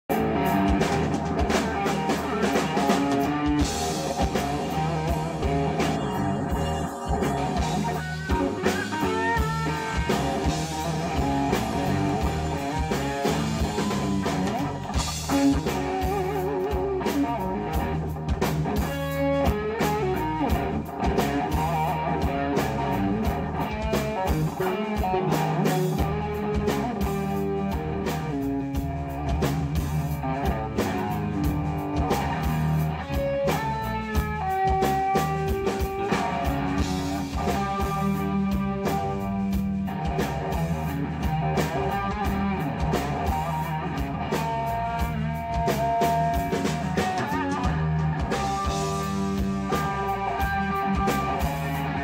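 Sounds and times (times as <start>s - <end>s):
bass guitar: 0.0s - 52.0s
drum kit: 0.0s - 52.0s
lead electric guitar: 0.0s - 52.0s.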